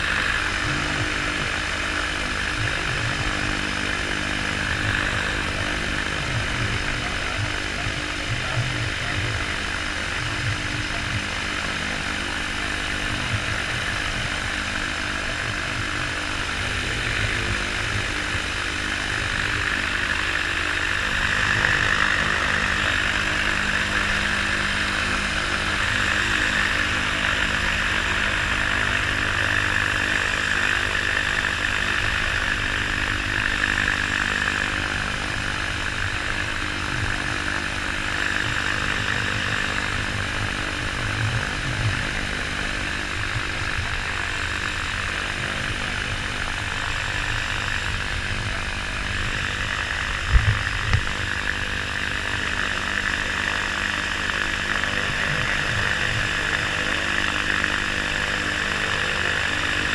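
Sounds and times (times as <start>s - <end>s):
microlight engine droning: 0.0s - 59.9s.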